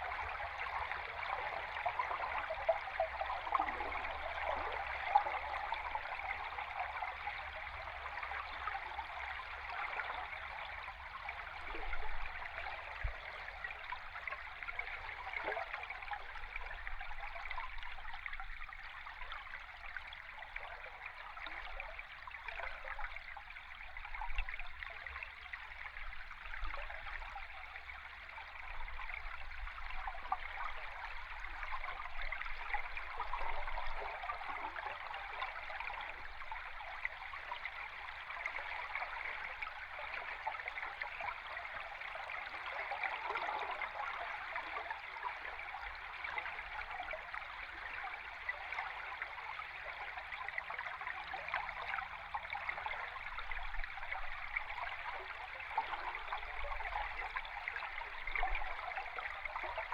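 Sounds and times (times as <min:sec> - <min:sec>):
underwater river gurgling: 0:00.0 - 0:59.9.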